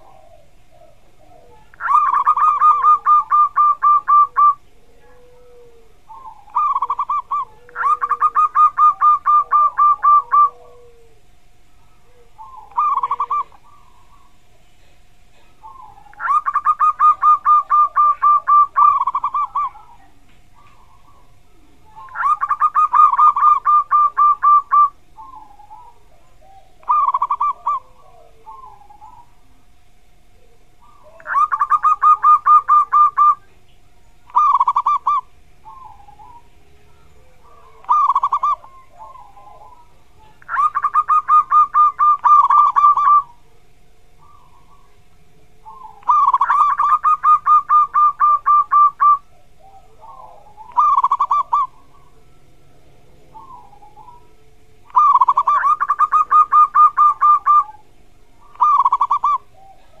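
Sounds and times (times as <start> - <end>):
dove cooing song: 0.0 - 60.0.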